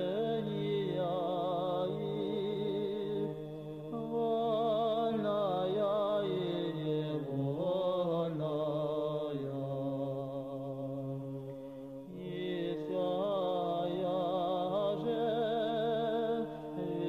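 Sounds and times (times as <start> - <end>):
male choir singing chant: 0.0 - 11.2, 12.1 - 17.0.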